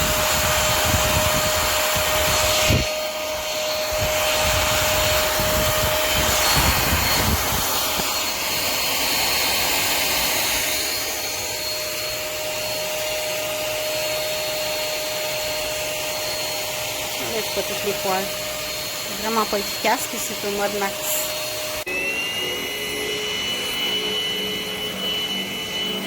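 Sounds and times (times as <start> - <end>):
stick vacuum cleaner running: 0.0 - 26.0.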